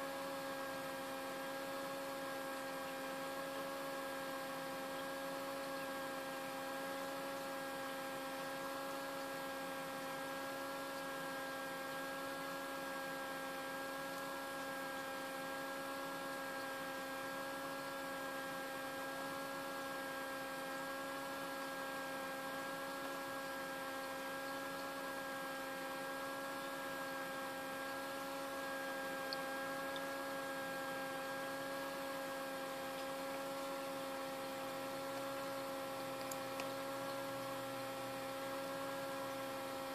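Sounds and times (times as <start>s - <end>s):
incubator fan motor humming: 0.0s - 39.9s.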